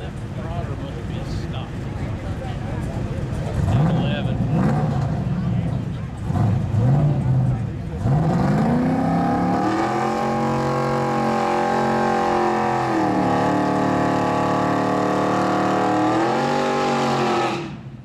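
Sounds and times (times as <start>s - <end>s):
car engine revving: 3.4s - 17.9s.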